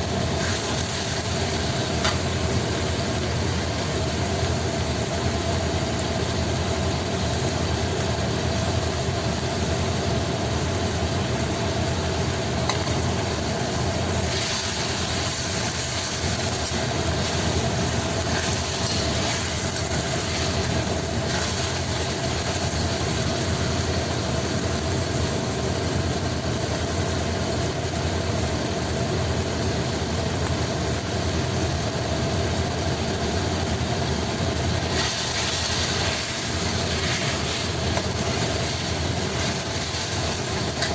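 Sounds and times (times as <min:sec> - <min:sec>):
dense cooking hiss: 0:00.0 - 0:40.9
machine-like hum: 0:00.0 - 0:40.9.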